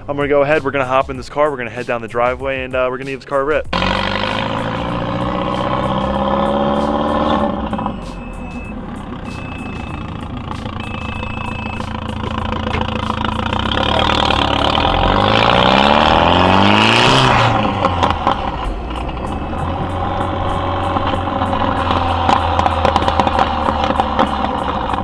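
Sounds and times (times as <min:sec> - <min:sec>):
car engine accelerating: 0:03.7 - 0:25.0
exhaust pops: 0:03.7 - 0:25.0.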